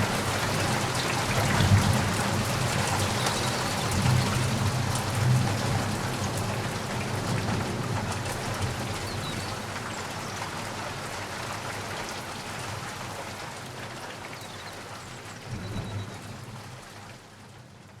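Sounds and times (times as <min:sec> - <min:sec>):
rain drops pattering: 0:00.0 - 0:18.0.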